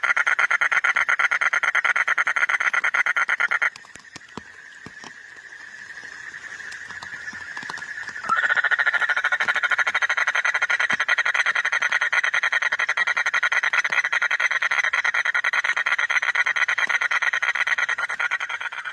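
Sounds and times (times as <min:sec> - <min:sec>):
frog trilling: 0:00.0 - 0:03.8, 0:06.8 - 0:18.9.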